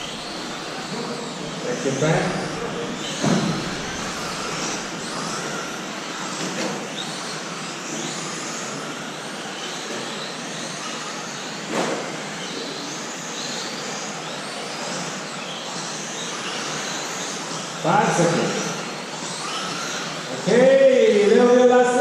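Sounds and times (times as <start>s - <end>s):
rc car motors whining: 0.0s - 22.0s.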